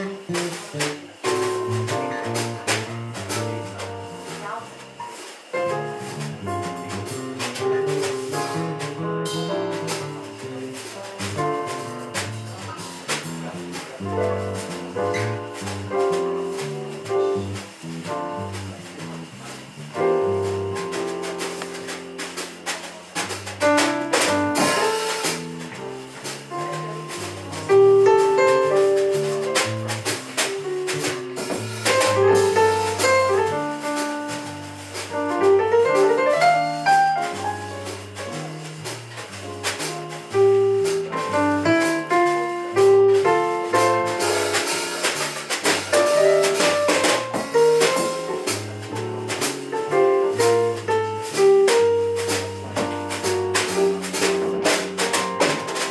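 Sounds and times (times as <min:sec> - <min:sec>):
bass line: 0:00.0 - 0:05.0, 0:05.6 - 0:55.9
drums with cymbals: 0:00.0 - 0:55.9
jazz band playing: 0:00.0 - 0:55.9.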